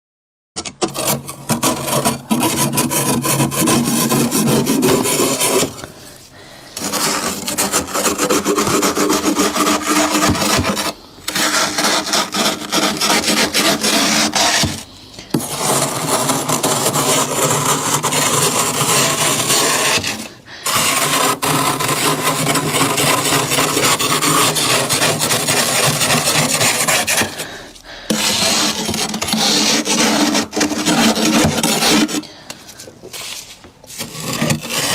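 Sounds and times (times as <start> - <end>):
frost scraping in freezer: 0.6 - 34.9.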